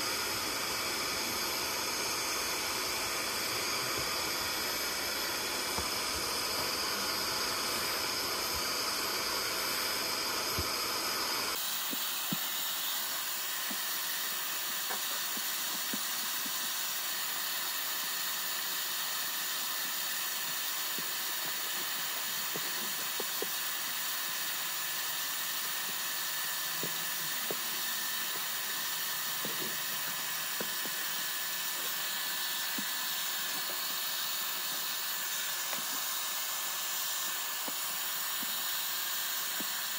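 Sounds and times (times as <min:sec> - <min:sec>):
carpet extractor running: 0:00.0 - 0:39.9
water spraying and sucking hiss: 0:00.0 - 0:39.9.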